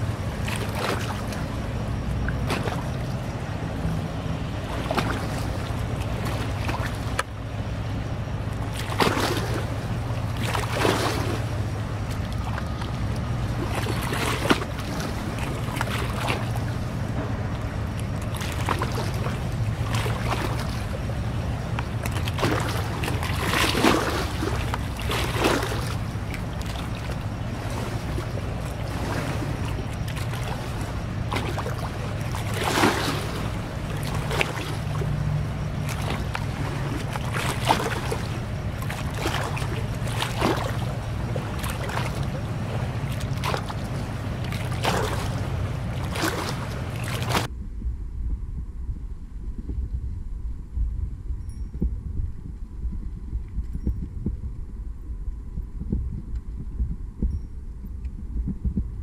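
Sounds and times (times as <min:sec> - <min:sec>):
ship engines droning: 0:00.0 - 0:47.5.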